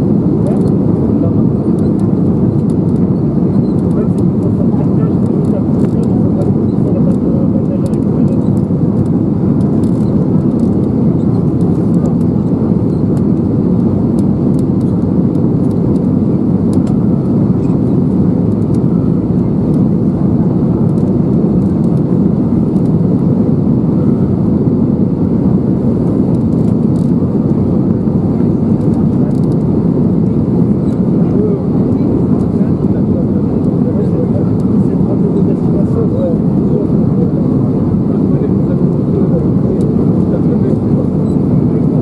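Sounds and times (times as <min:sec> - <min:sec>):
airplane cabin roar: 0:00.0 - 0:42.0.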